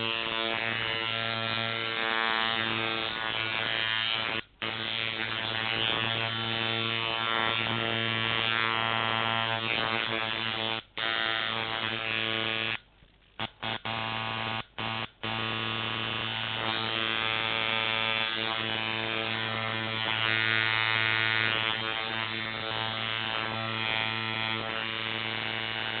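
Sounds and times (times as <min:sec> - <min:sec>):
tattoo machine buzzing: 0:00.0 - 0:12.8, 0:13.4 - 0:26.0.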